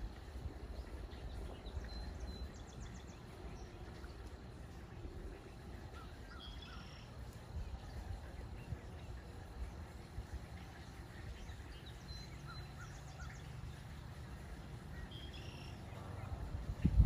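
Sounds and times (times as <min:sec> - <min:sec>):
steady low rumble: 0:00.0 - 0:17.0
faint bird chirps: 0:00.6 - 0:17.0.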